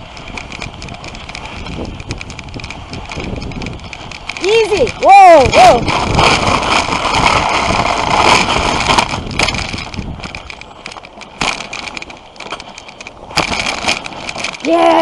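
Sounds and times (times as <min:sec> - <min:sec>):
sled runners scraping snow: 0:00.0 - 0:15.0.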